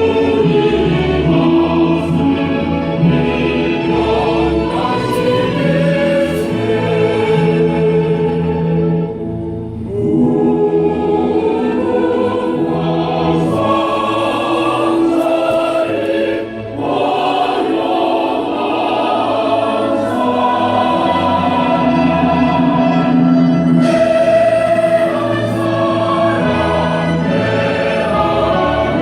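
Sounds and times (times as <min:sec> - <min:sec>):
choir singing long held notes: 0:00.0 - 0:29.0.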